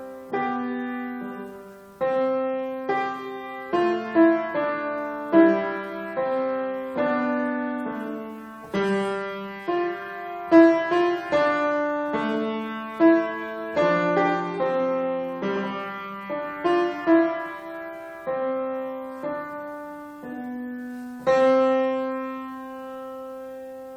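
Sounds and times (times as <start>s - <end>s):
solo piano melody: 0.0s - 23.9s.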